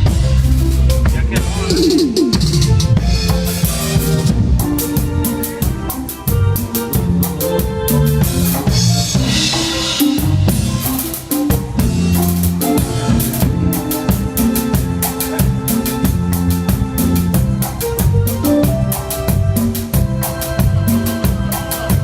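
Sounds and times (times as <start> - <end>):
bass notes: 0.0 - 22.0
drum kit hits: 0.0 - 22.0
live band playing: 0.0 - 22.0.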